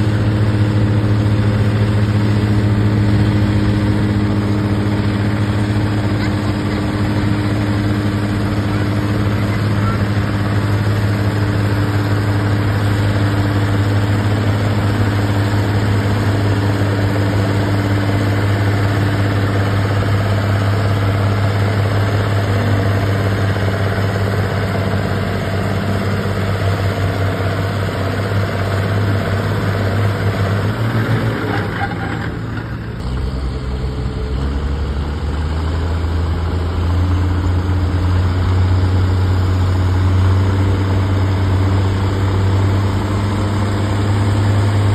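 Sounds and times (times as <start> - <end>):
tractor engine running under load: 0.0 - 44.9.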